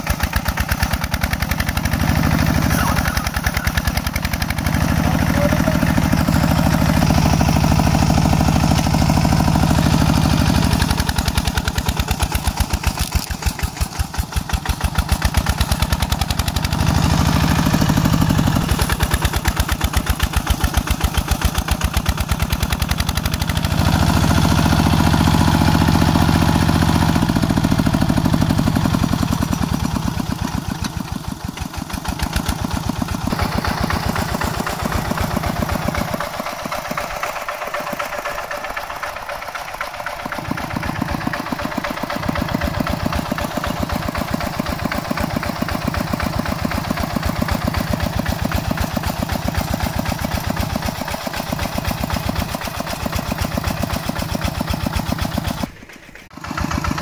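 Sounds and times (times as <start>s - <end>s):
bulldozer diesel engine chugging: 0.0s - 57.0s.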